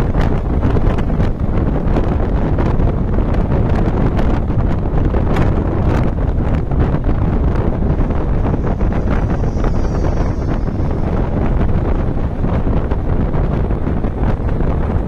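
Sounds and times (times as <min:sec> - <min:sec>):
bus and tyres rumbling: 0:00.0 - 0:15.0
wind buffeting microphone: 0:00.0 - 0:15.0.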